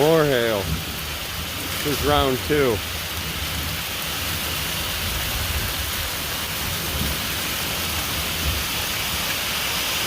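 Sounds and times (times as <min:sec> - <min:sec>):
hail and rain falling: 0:00.0 - 0:10.0.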